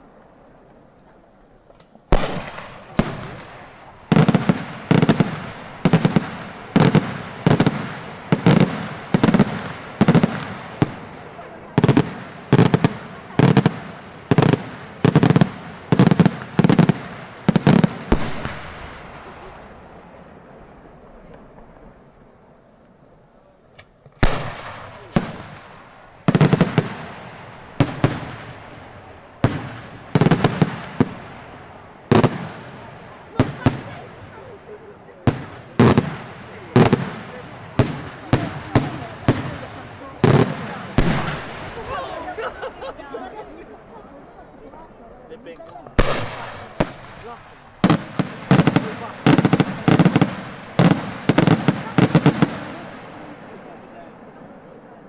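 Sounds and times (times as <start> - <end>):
fireworks bangs with echo: 2.1 - 22.6, 23.8 - 55.0.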